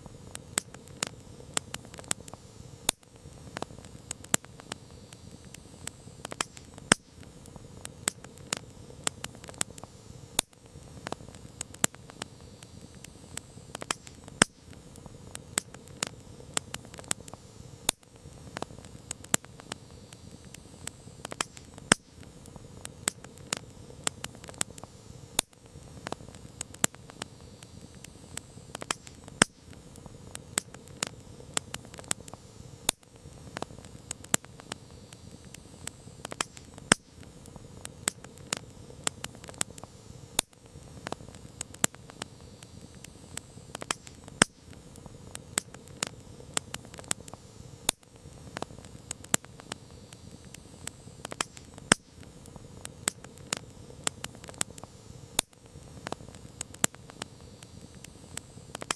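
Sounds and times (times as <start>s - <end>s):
campfire crackling and popping: 0.0s - 58.9s
rustle of burning wood: 0.0s - 58.9s.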